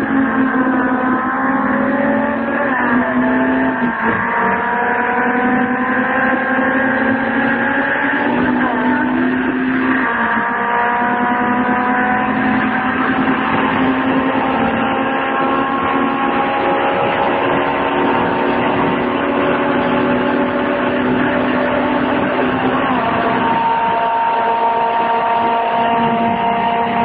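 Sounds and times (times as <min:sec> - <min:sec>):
car engine drone: 0:00.0 - 0:27.0
road noise: 0:00.0 - 0:27.0.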